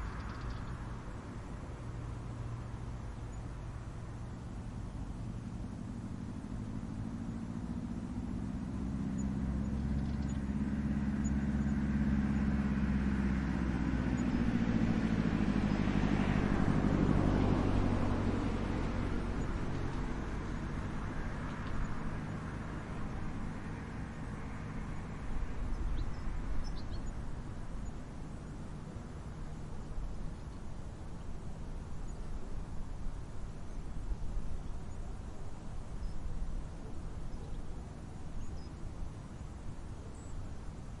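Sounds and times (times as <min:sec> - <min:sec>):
vehicle passing by: 0:00.0 - 0:41.0.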